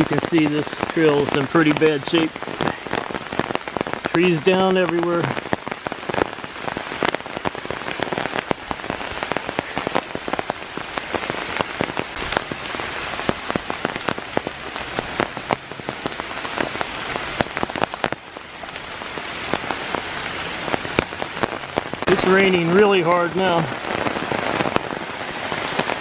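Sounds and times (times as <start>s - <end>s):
heavy rain on leaves: 0.0s - 26.0s.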